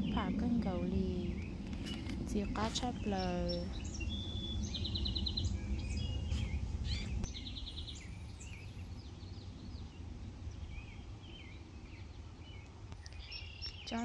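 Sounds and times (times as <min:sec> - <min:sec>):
low rumble on microphone: 0:00.0 - 0:14.0
songbirds chirping: 0:00.0 - 0:14.0.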